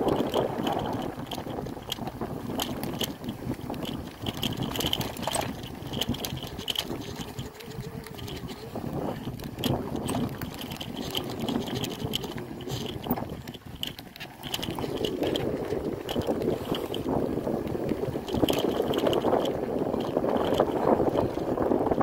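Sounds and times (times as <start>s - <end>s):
bicycle tyres rumbling on dirt: 0.0s - 22.0s
bike rattling and clicking: 0.0s - 22.0s.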